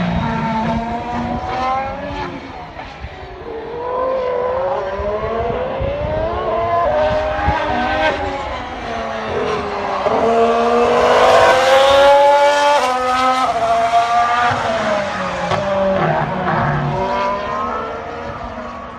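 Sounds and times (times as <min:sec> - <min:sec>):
racing car engine accelerating: 0:03.6 - 0:18.8.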